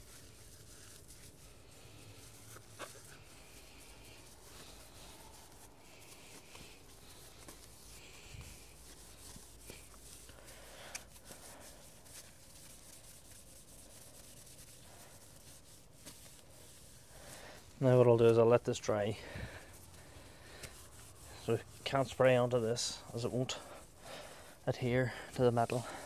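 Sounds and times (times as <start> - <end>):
cloth wiping metal wheel: 0.0 - 26.0.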